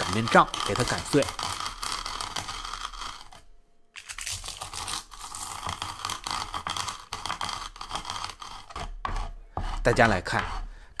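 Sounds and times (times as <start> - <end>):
rolling pin crushing chilies: 0.0 - 10.7.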